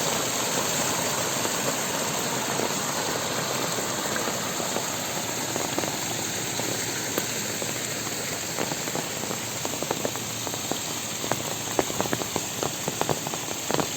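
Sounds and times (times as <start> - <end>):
heavy rain falling: 0.0 - 13.9
large drops tapping: 0.4 - 13.9.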